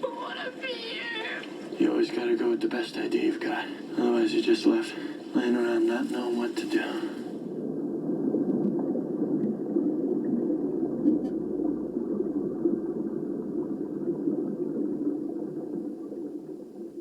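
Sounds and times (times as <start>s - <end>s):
muffled low rumble: 1.5s - 17.0s.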